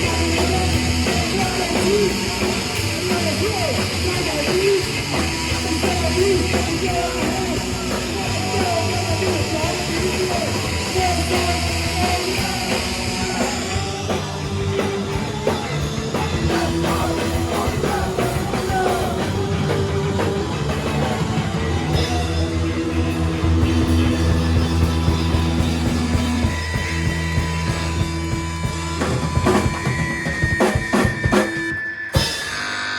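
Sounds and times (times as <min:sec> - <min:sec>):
drum kit: 0:00.0 - 0:32.9
live rock band playing: 0:00.0 - 0:32.9
sustained guitar chords: 0:00.0 - 0:32.9.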